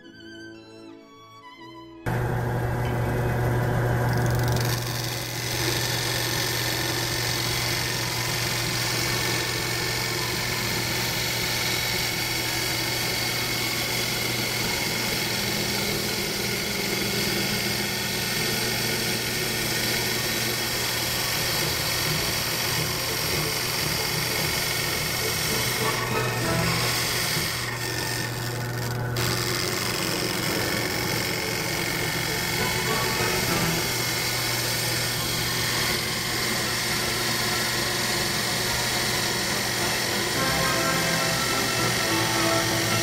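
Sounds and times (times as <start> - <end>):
wood lathe humming: 2.1 - 43.0
turning tool cutting hiss: 3.8 - 43.0.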